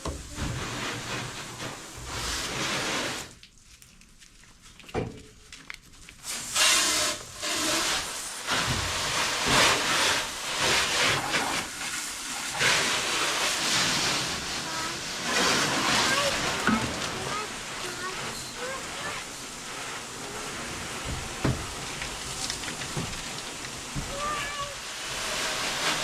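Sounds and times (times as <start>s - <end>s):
water spray hissing on car: 0.0s - 3.4s, 6.2s - 26.0s.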